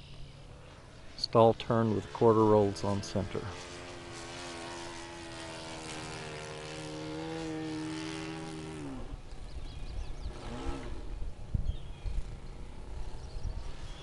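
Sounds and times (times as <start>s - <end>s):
model airplane motor and propeller: 0.0s - 14.0s.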